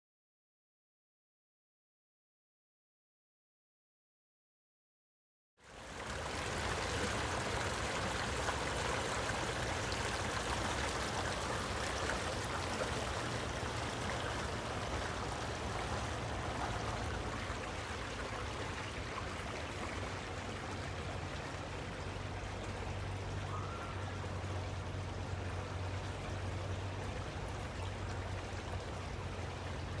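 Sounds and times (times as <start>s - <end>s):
flowing water rushing: 5.6s - 30.0s.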